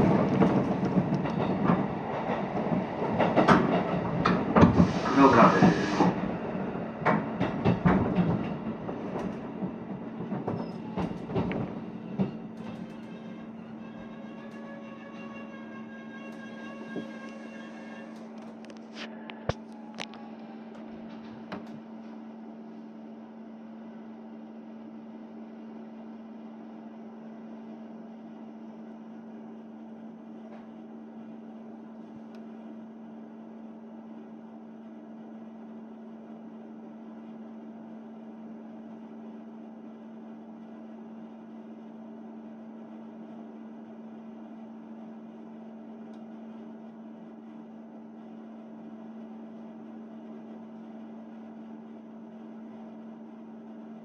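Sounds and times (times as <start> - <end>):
electrical hum of train equipment: 0.0 - 54.0.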